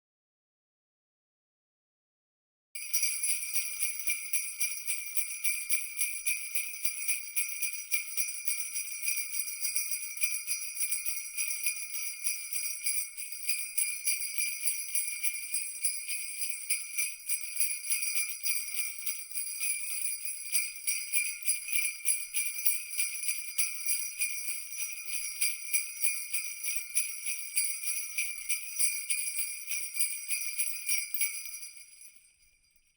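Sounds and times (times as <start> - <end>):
jingle bells shaken: 2.8 - 32.9.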